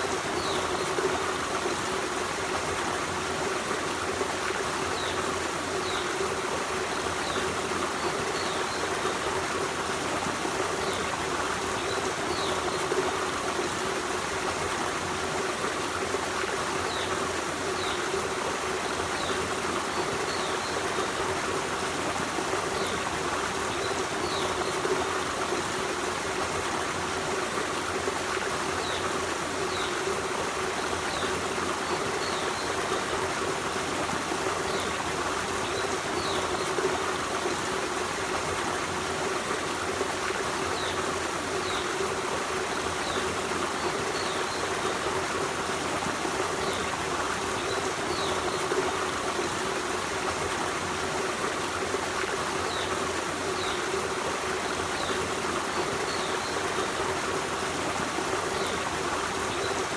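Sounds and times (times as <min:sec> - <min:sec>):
stream flowing water: 0:00.0 - 0:59.9.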